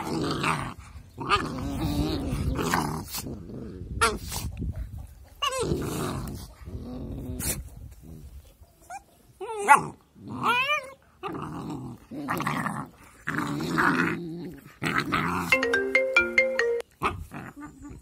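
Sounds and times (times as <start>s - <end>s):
puppies growling: 0.0s - 4.2s, 5.4s - 15.6s, 17.0s - 18.0s.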